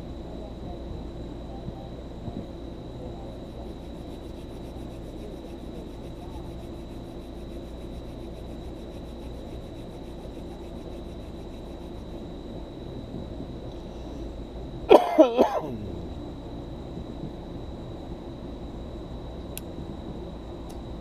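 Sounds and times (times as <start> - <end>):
insects calling: 0.0 - 21.0
steady low hum: 0.0 - 21.0.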